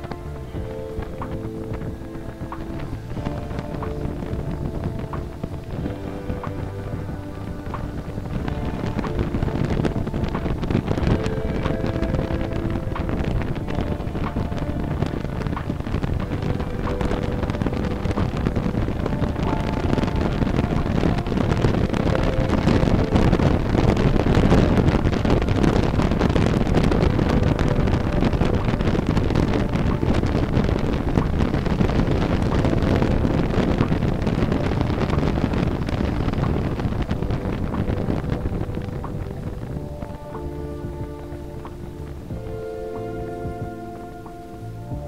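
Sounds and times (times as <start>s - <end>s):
wind rushing over microphone: 0.0s - 45.0s.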